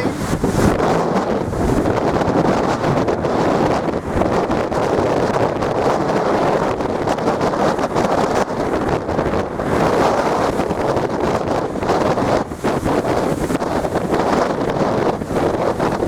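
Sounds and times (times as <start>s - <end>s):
storm waves breaking: 0.0s - 16.0s
storm wind buffeting microphone: 0.0s - 16.0s.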